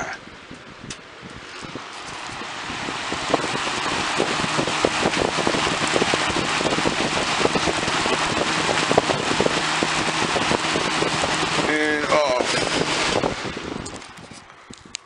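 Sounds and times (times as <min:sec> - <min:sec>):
box fan air rushing: 0:00.4 - 0:14.6.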